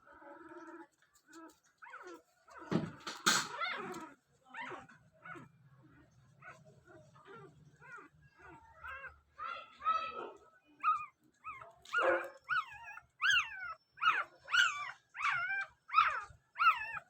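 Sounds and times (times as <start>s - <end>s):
puppies whining and yelping: 0.0s - 17.0s.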